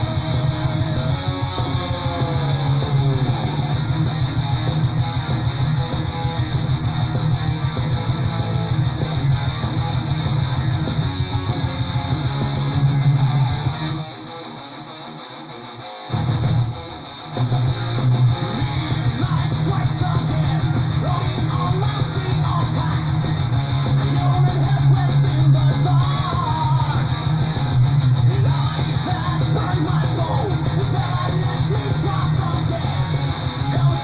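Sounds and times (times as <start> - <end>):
power metal with electric guitars: 0.0 - 34.0.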